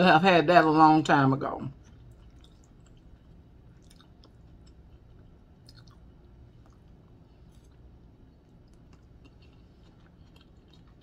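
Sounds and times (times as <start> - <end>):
faint chewing of food: 1.7 - 11.0.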